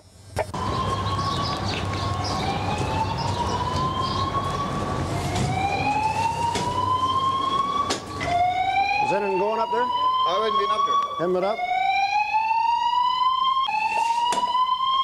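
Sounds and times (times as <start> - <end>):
fire alarm whoop tone: 0.5 - 15.0.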